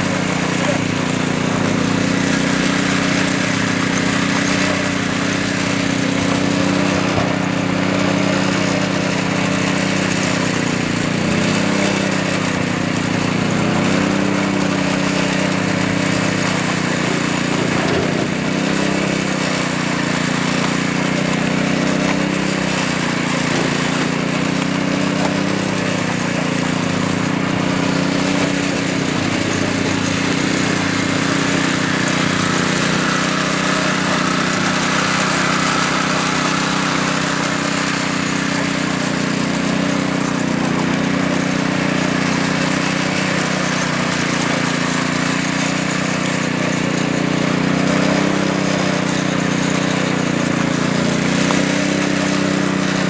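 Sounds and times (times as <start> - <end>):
power trowel engine running: 0.0 - 53.0.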